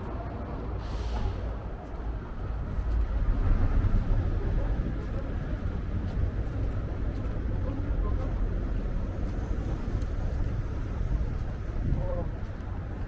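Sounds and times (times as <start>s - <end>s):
street traffic noise: 0.0s - 13.0s
wind buffeting microphone: 0.0s - 13.0s.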